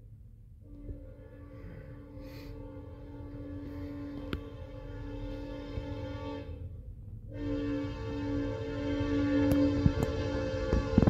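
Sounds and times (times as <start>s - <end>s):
train air horn chord: 0.6s - 11.0s.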